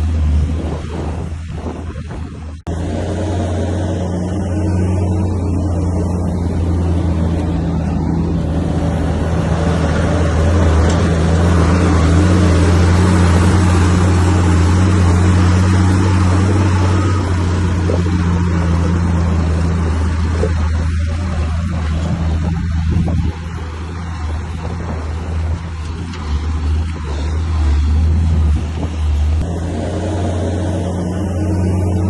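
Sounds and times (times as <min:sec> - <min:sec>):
bulldozer diesel engine running: 0:00.0 - 0:32.0
working noise: 0:00.0 - 0:32.0.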